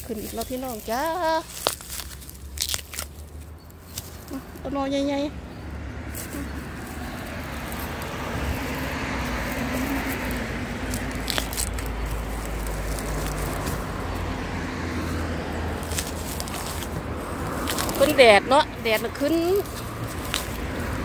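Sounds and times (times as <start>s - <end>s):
dry grass rustling and crackling: 0.0s - 5.3s, 6.0s - 21.0s.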